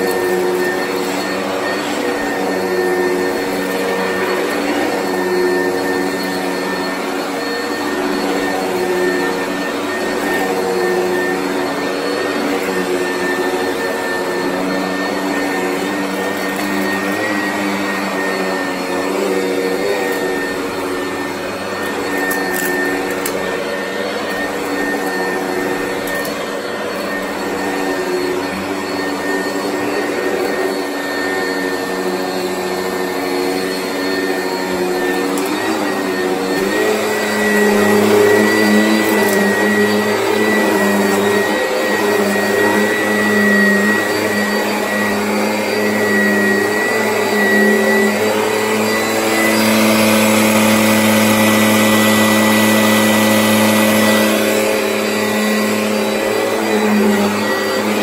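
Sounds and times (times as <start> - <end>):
vacuum cleaner on carpet: 0.0 - 58.0.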